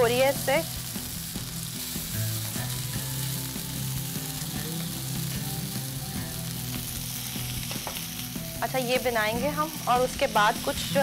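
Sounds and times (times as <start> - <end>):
kebabs sizzling in a frying pan: 0.0 - 11.0.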